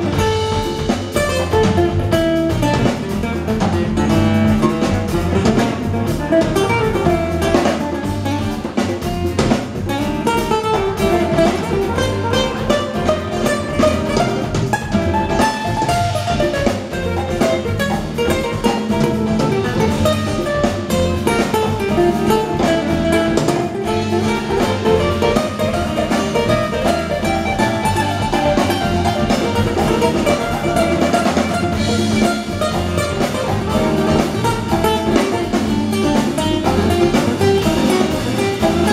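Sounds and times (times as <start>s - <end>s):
bass guitar: 0.0s - 38.9s
conga hand drums: 0.0s - 38.9s.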